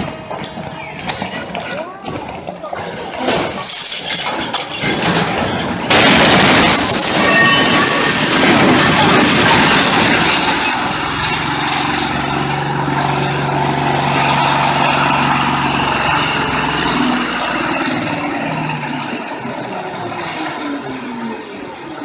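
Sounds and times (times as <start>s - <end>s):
large vehicle engine humming: 0.0s - 22.0s.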